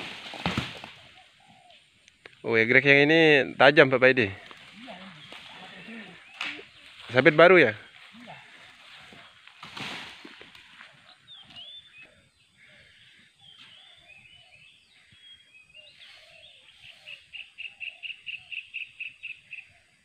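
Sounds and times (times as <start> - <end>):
wild birds chirping and whistling: 0.0 - 20.0.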